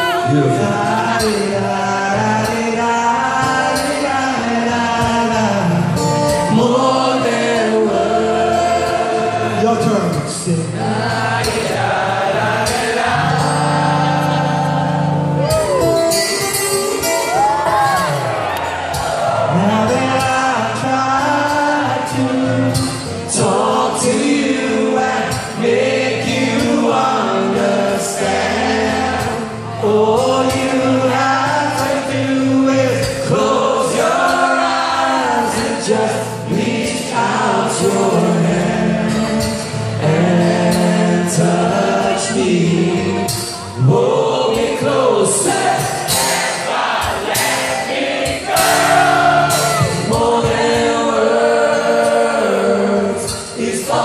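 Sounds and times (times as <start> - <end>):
man singing: 0.0 - 14.5, 19.4 - 46.0, 48.8 - 54.0
strummed acoustic guitar: 0.0 - 54.0.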